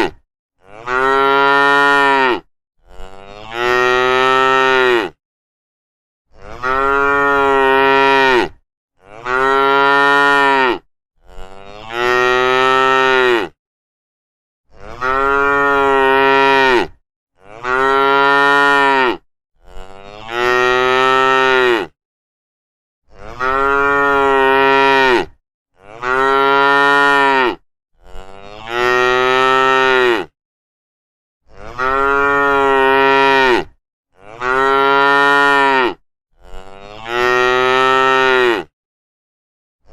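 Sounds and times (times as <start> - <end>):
cow mooing: 0.0 - 5.2, 6.4 - 13.6, 14.7 - 22.0, 23.1 - 30.3, 31.5 - 38.7.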